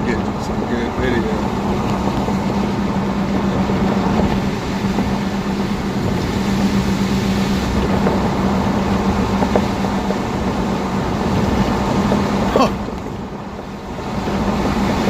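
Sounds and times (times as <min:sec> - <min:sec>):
constant low hum: 0:00.0 - 0:15.0
steady rushing noise: 0:00.0 - 0:15.0.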